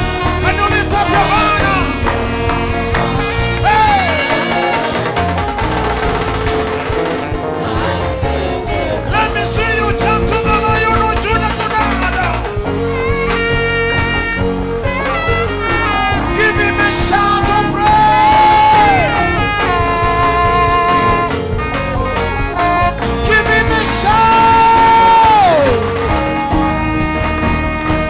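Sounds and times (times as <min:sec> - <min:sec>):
lead instrument long notes: 0:00.0 - 0:28.0
live band playing: 0:00.0 - 0:28.0.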